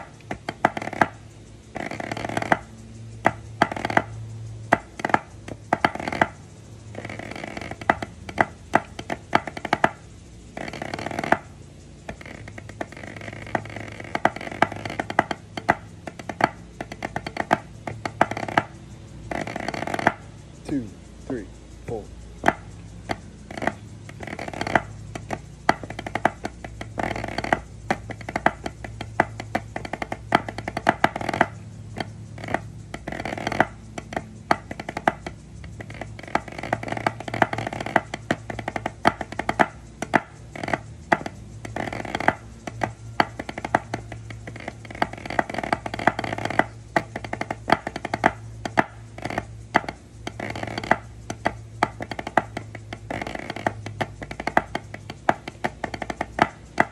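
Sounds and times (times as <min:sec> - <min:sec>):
drumsticks on practice pad: 0:00.0 - 0:56.9.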